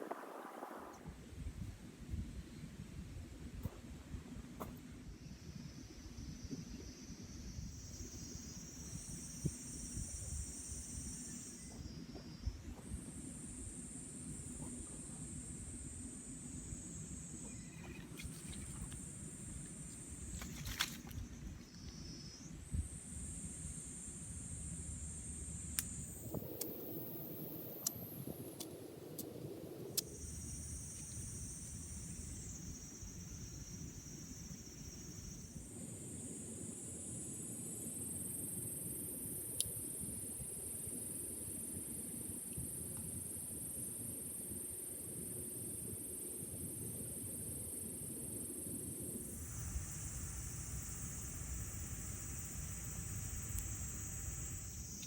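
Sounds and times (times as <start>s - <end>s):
insects trilling: 5.2s - 55.0s.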